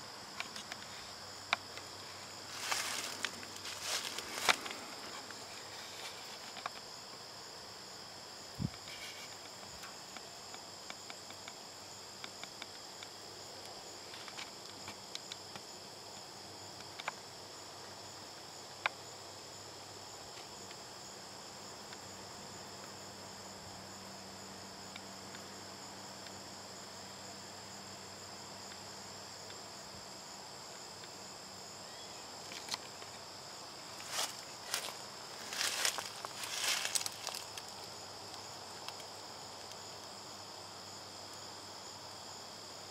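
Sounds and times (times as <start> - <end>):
insects trilling: 0.0 - 42.9
faint ticks and rustles: 0.1 - 42.9.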